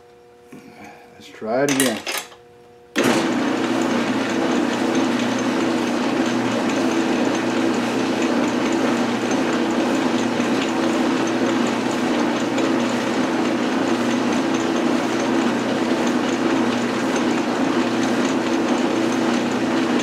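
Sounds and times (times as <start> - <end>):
metal lathe motor hum: 3.0 - 20.0.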